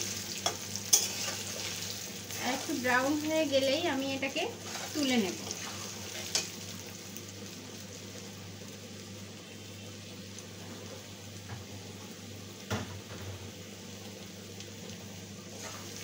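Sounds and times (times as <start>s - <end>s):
potatoes deep-frying in oil: 0.0s - 16.0s.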